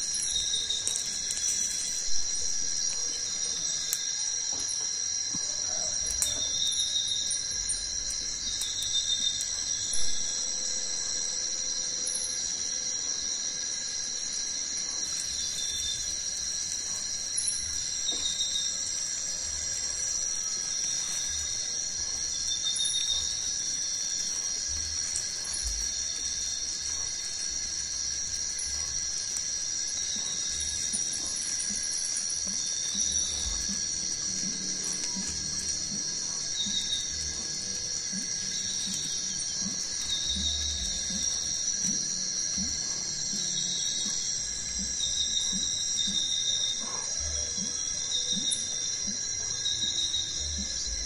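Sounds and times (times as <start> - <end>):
insect chorus drone: 0.0 - 51.0.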